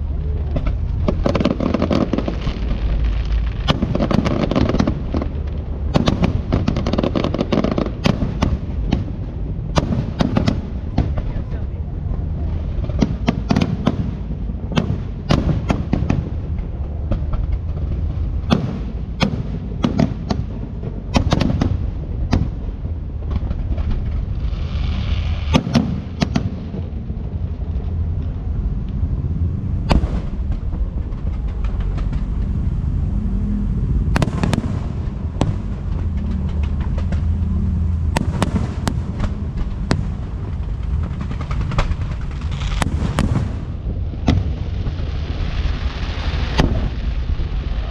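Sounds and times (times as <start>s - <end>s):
fireworks cracks and bangs: 0.0s - 33.1s, 33.8s - 47.9s
low rumble: 0.0s - 47.9s.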